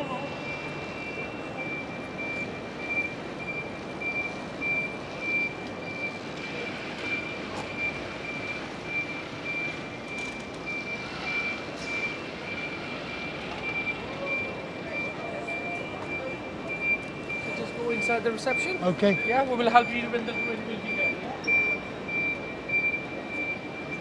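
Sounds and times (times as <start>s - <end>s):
repeating high warning beep: 0.0s - 24.0s.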